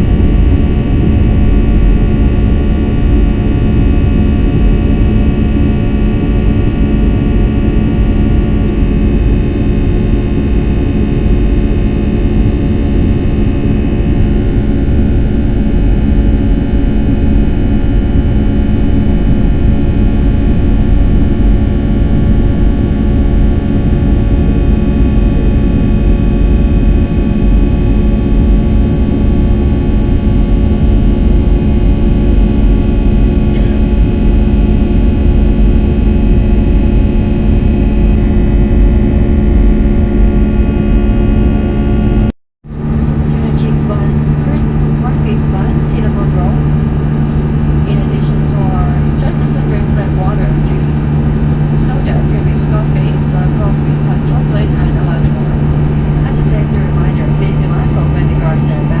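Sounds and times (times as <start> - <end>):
airliner engines rumbling: 0.0 - 59.0
engine whining tones: 0.0 - 59.0.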